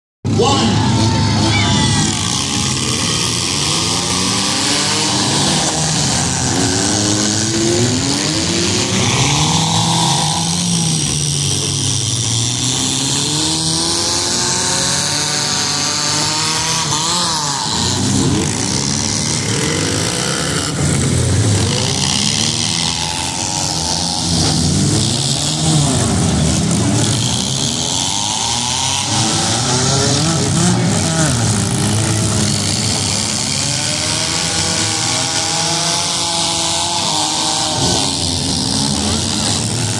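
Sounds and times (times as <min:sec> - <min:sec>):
car engines revving: 0:00.2 - 0:39.9.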